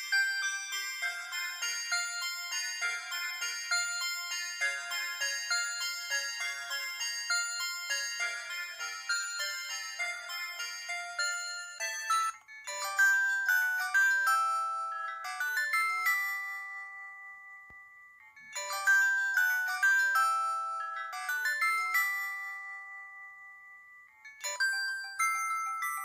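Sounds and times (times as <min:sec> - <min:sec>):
phone ringtone melody: 0:00.0 - 0:26.0.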